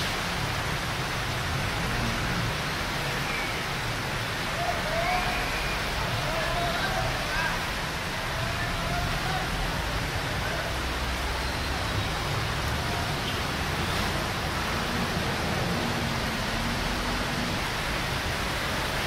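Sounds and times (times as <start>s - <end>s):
vehicles wading through water: 0.0s - 19.0s.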